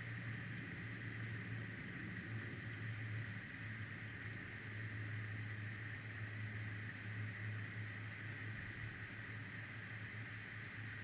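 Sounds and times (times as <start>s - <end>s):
constant hiss: 0.0s - 11.0s.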